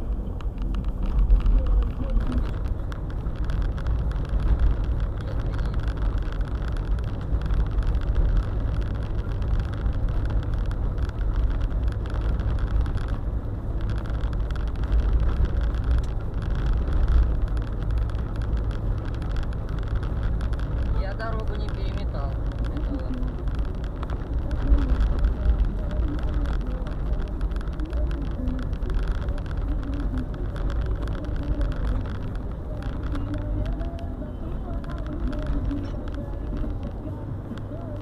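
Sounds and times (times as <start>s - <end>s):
car driving rumble: 0.0s - 38.0s.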